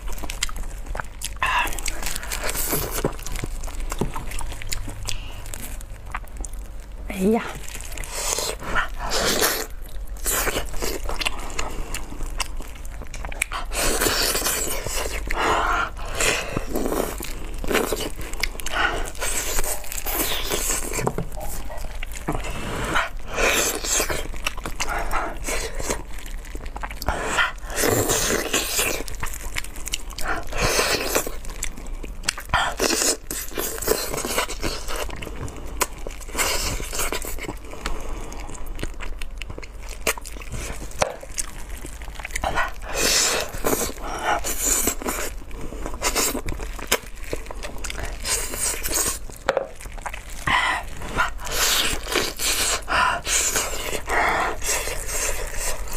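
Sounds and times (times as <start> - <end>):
close chewing and mouth clicks: 0.0 - 55.9.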